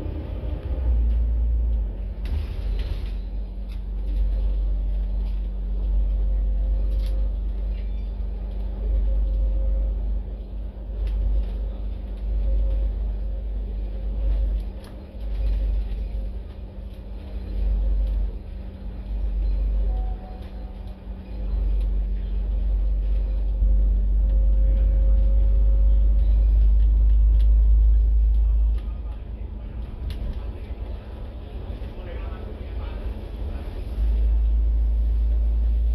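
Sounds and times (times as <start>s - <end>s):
bus engine and road rumble: 0.0s - 35.9s
steady low hum: 0.0s - 35.9s.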